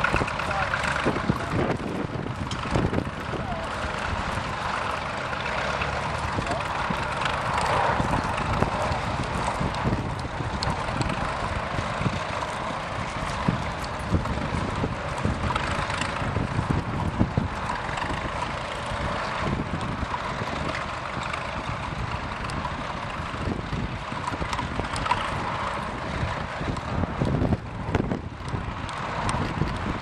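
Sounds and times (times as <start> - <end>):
tractor engine running under load: 0.0 - 30.0
wind buffeting microphone: 0.0 - 30.0.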